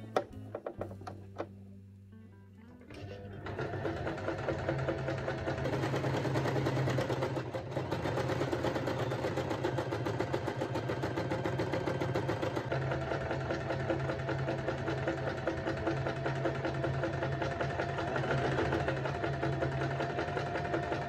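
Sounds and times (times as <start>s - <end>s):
sewing machine running: 3.0s - 21.0s.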